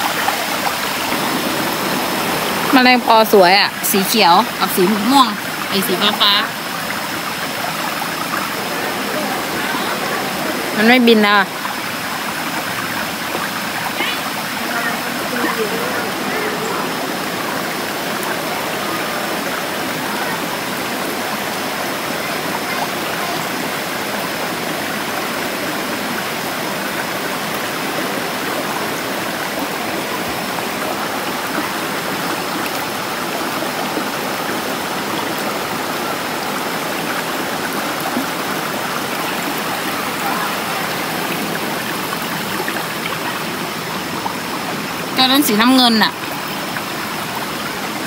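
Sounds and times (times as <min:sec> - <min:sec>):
stream flowing over rocks: 0:00.0 - 0:48.0.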